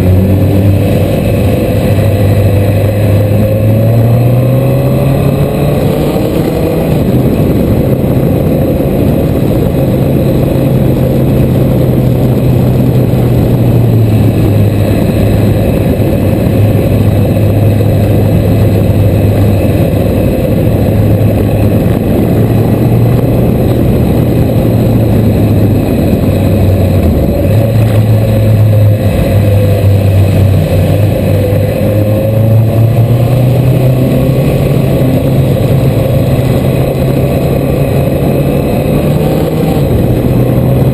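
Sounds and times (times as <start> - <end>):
motorcycle engine running: 0.0 - 40.9
rushing noise: 0.0 - 40.9.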